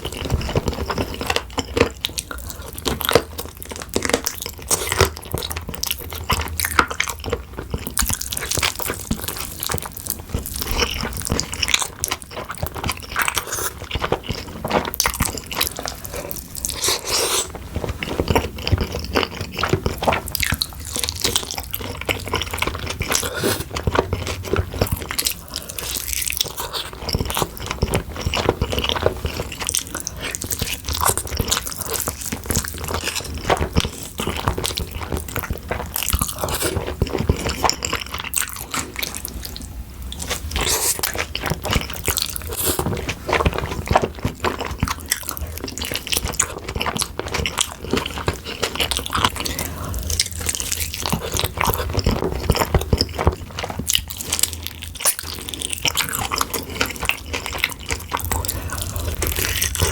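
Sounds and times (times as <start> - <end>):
wet saucy chewing: 0.0 - 59.9.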